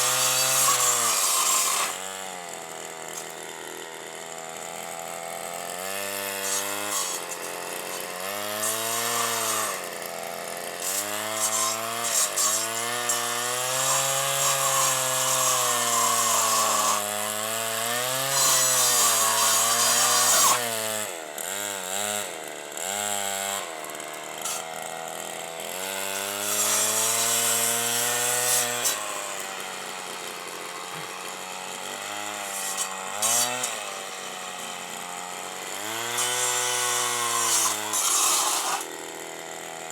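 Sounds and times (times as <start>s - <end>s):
blade cutting branches: 0.0s - 39.9s
brush cutter engine revving: 0.0s - 39.9s.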